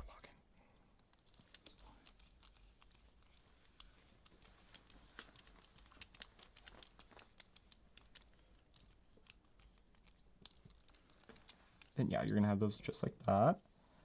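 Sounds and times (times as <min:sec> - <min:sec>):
small plastic parts clicking: 0:01.0 - 0:12.3.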